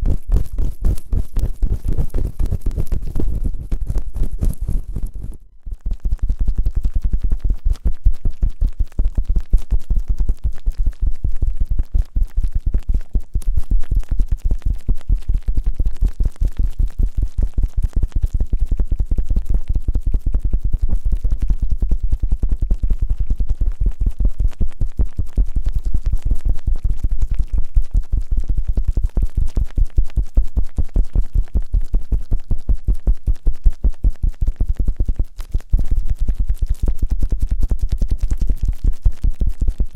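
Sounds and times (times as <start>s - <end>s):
rapid scraping and rubbing on microphone: 0.0s - 39.9s.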